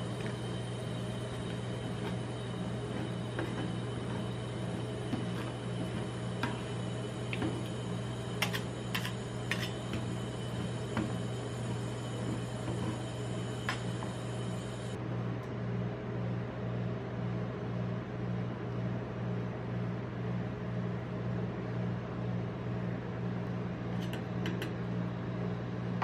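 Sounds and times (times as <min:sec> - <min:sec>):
refrigerated machine humming: 0:00.0 - 0:26.0.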